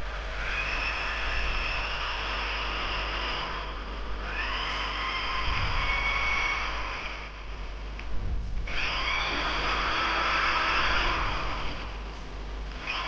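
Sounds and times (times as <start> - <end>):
electric drill whining: 0.3 - 13.0.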